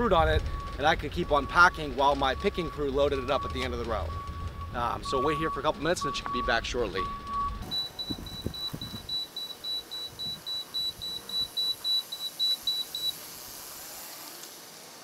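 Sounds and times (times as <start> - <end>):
rapid high-pitched electronic beeps: 0.1 - 13.4.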